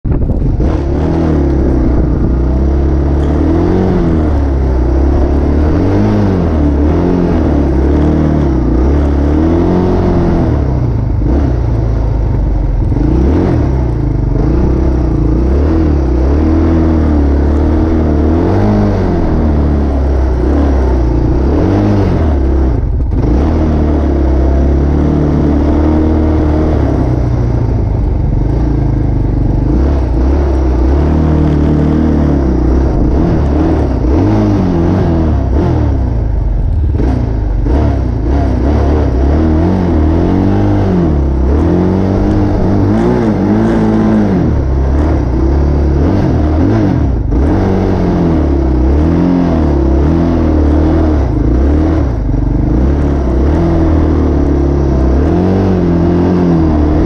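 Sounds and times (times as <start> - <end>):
engine revving: 0.1 - 57.0.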